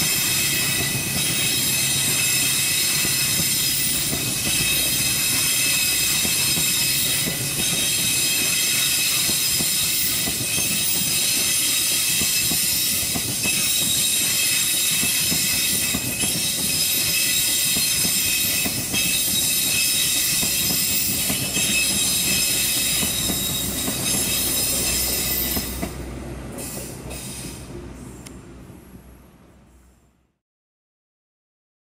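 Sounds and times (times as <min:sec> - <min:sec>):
train wheels squealing on rails: 0:00.0 - 0:28.5
wheels rumbling on track: 0:00.0 - 0:29.8.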